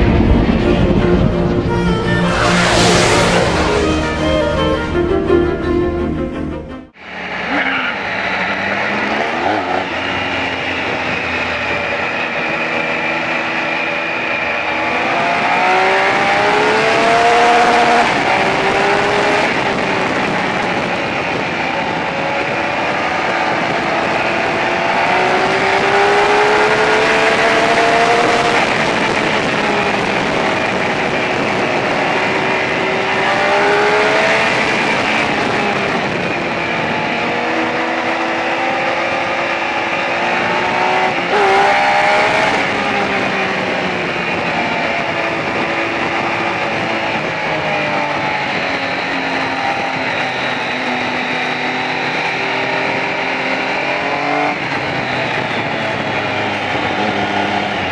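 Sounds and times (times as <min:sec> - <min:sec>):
motorcycle engine accelerating: 0:00.0 - 0:05.6, 0:07.1 - 0:57.9
wind rushing: 0:00.0 - 0:57.9.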